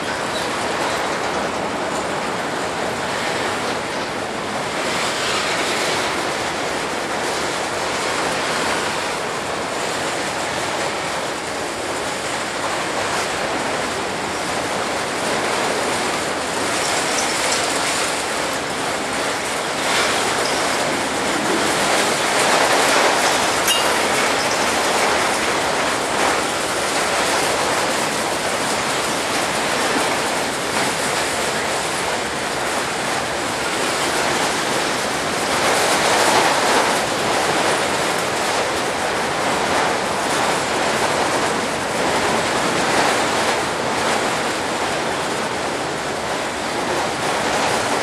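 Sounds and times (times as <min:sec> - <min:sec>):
freight train rumbling past: 0:00.0 - 0:48.0.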